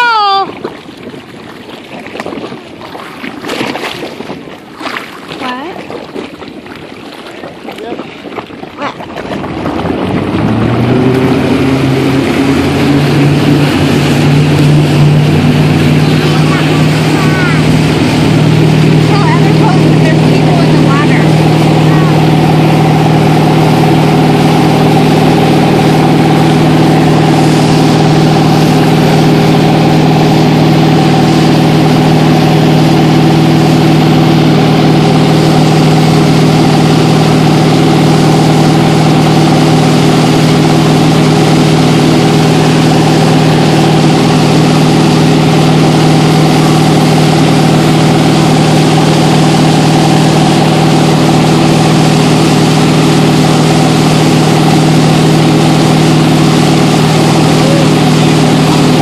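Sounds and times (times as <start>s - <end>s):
boat engine droning: 0.0s - 59.0s
churning wake rushing: 0.0s - 59.0s.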